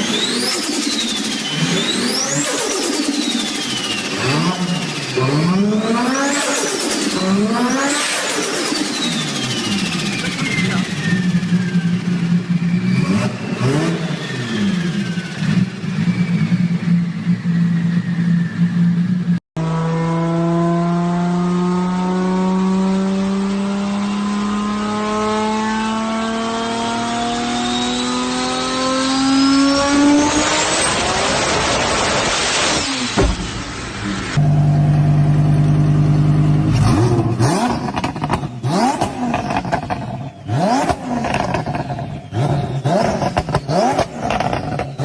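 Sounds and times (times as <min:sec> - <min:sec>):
turbocharged car engine: 0:00.0 - 0:45.0.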